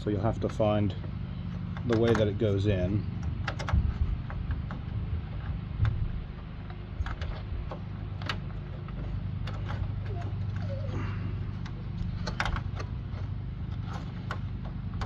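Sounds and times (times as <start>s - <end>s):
steady low hum: 0.0s - 15.0s
hard plastic clicking and tapping: 0.4s - 2.5s, 3.2s - 10.5s, 11.5s - 15.0s.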